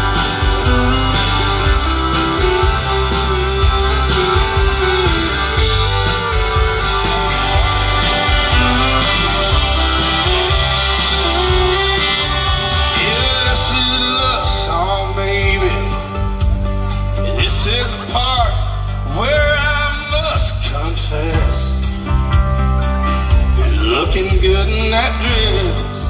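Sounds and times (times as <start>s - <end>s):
live country rock band: 0.0s - 26.0s.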